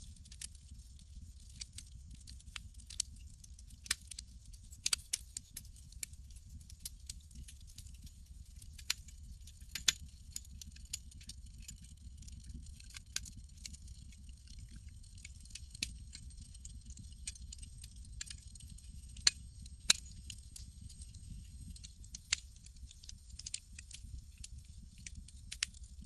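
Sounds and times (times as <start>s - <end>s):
campfire crackling: 0.1s - 26.0s.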